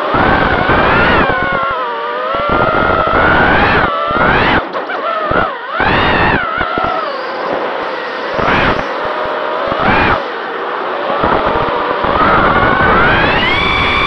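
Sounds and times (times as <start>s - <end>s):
quadcopter motors whining: 0.0s - 14.0s
wind rumbling on microphone: 0.0s - 14.0s.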